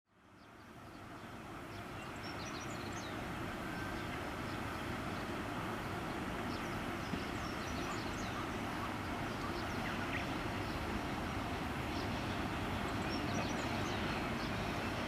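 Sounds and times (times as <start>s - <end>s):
outdoor rumble and hiss: 0.1s - 15.0s.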